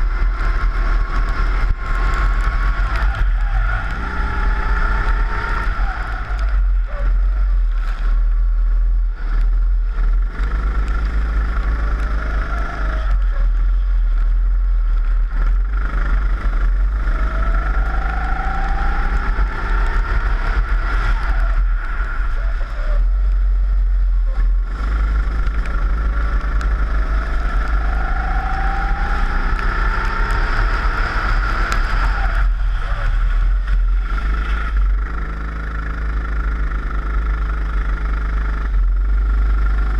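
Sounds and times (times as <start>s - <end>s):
kart engine revving: 0.0s - 8.4s, 9.1s - 14.3s, 14.9s - 39.9s.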